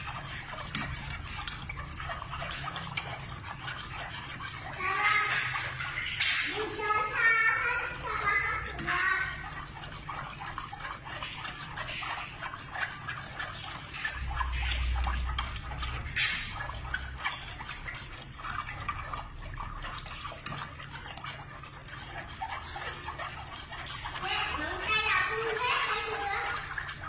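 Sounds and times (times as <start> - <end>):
liquid swishing: 0.0 - 27.0.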